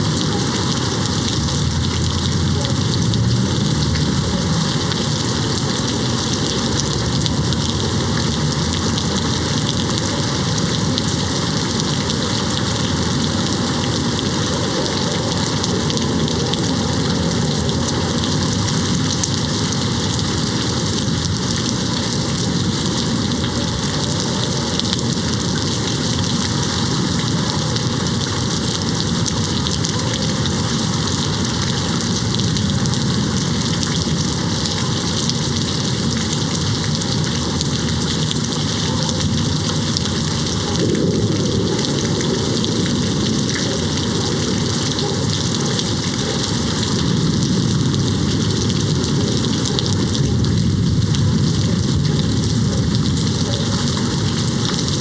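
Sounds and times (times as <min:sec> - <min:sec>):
rain on window glass: 0:00.0 - 0:55.0.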